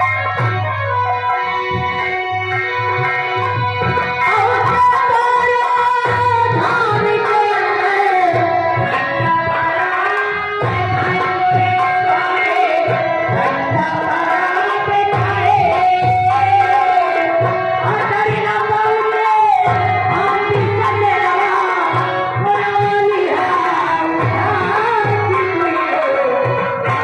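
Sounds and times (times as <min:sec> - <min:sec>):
person singing: 0:03.8 - 0:27.0.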